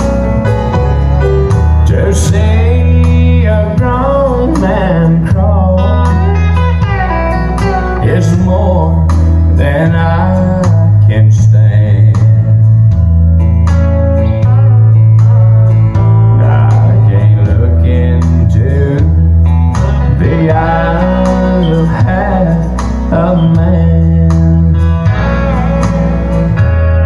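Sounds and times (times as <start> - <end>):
country song from a jukebox: 0.0 - 27.0.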